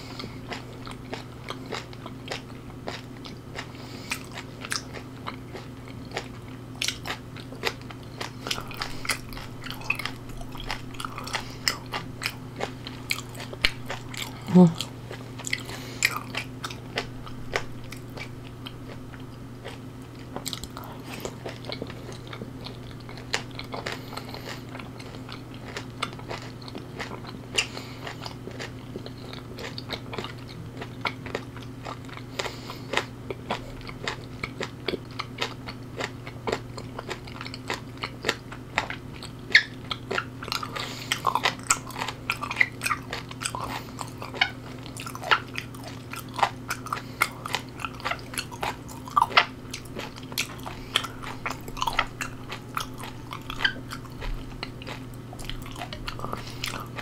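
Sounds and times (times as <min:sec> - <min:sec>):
low electrical hum: 0:00.0 - 0:57.0
person chewing and crunching food: 0:00.0 - 0:57.0.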